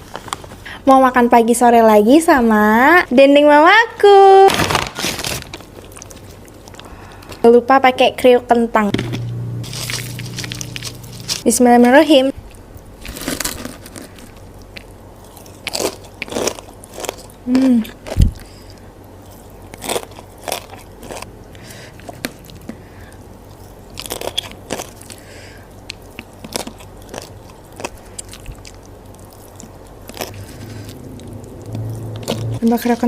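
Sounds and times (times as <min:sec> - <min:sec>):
crunching and chewing food: 0:04.5 - 0:07.5, 0:09.2 - 0:33.0.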